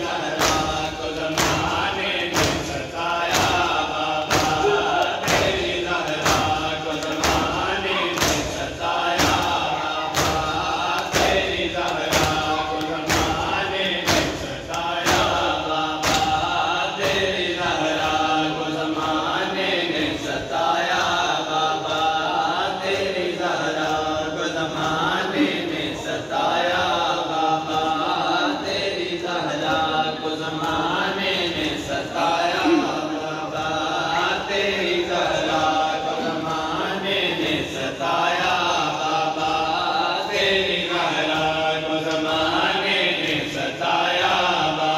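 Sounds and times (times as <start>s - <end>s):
men chanting a lament: 0.0s - 44.9s.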